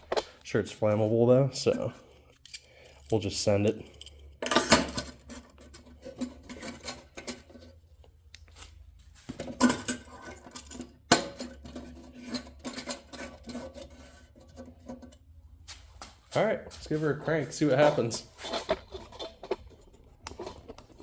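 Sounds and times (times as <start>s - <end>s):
metal tools clinking and scraping: 0.0s - 7.8s, 9.2s - 15.3s, 16.7s - 21.0s.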